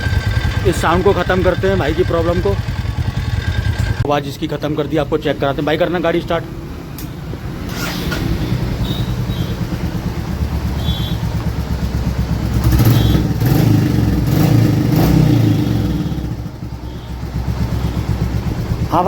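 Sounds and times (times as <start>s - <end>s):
motorcycle engine blipping: 0.0s - 19.0s.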